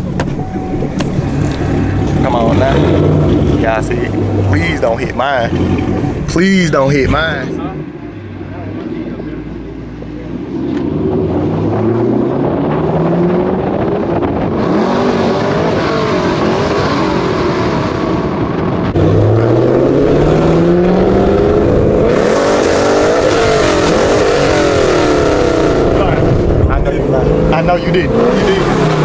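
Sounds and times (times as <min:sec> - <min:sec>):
car engines accelerating: 0:00.0 - 0:29.0.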